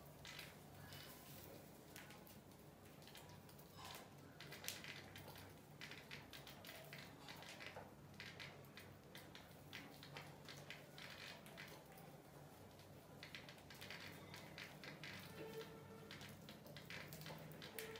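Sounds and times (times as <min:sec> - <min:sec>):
rats scratching on a floor: 0:00.0 - 0:17.9.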